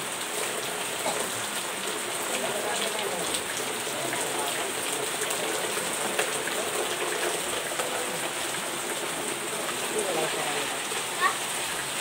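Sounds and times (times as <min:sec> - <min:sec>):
heavy rain on a tiled roof: 0:00.0 - 0:12.0.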